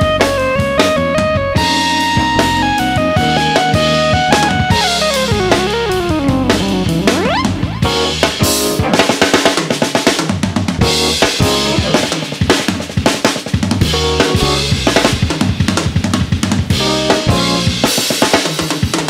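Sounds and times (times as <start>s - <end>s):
electric bass guitar: 0.0s - 9.4s, 10.5s - 12.9s, 13.8s - 18.1s
drum kit: 0.0s - 19.0s
live jazz band: 0.0s - 19.0s.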